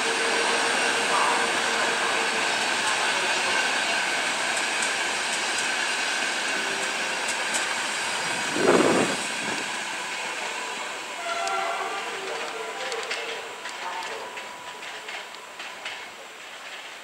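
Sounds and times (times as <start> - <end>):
train rumble: 0.0 - 17.0
train wheels rushing on rails: 0.0 - 17.0.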